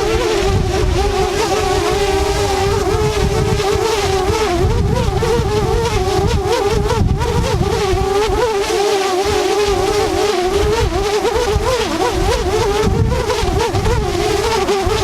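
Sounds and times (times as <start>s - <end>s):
drone propellers buzzing: 0.0s - 15.0s
wind rumbling on microphone: 0.0s - 15.0s.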